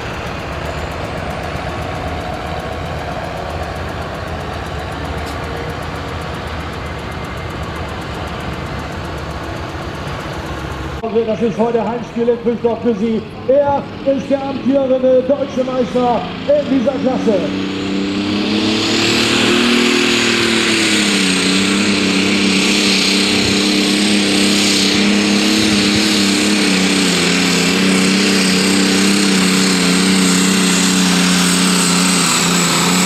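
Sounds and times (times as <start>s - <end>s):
diesel engine running hard: 0.0s - 33.0s.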